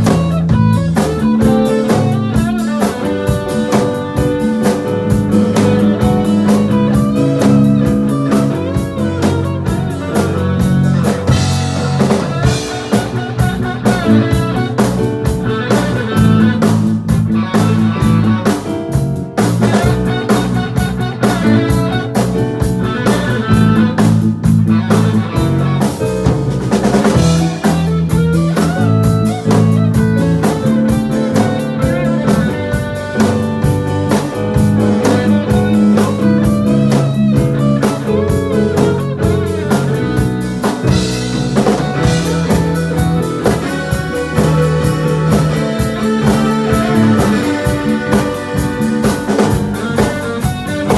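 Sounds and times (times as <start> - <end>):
drum kit: 0.0 - 50.9
guitar: 0.0 - 50.9
live band playing: 0.0 - 50.9.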